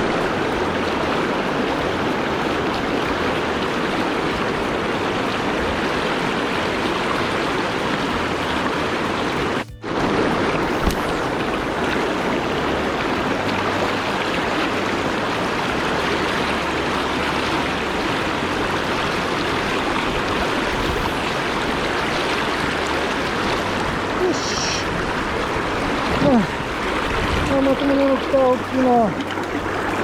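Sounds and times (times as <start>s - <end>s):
river water rushing: 0.0s - 30.0s
wind on microphone: 0.0s - 30.0s.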